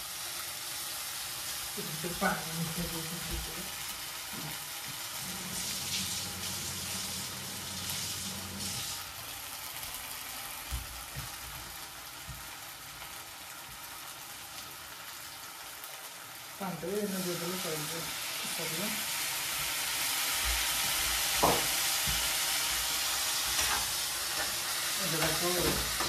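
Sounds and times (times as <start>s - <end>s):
onions sizzling in hot oil: 0.0s - 26.0s.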